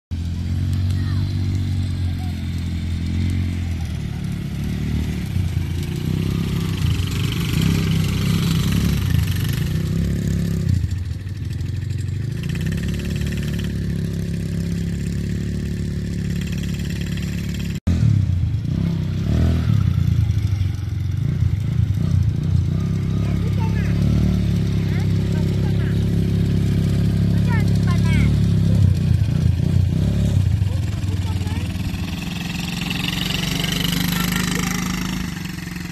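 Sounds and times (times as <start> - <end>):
quad bike engine droning: 0.1 - 35.9.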